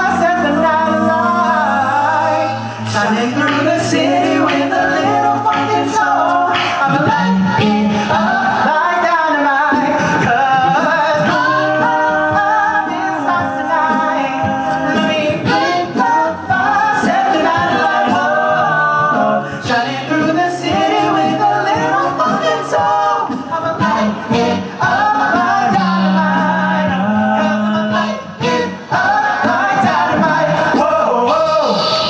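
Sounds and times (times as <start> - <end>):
male group singing in harmony: 0.0 - 32.0
sung bass line: 0.0 - 32.0.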